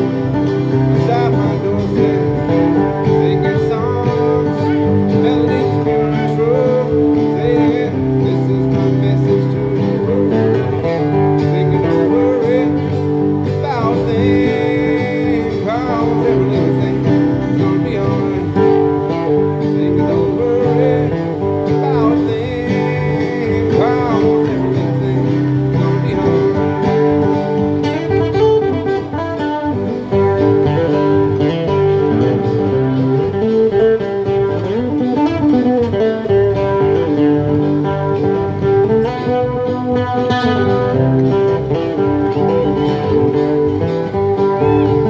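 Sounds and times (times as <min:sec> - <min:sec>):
acoustic guitar chords: 0:00.0 - 0:45.0.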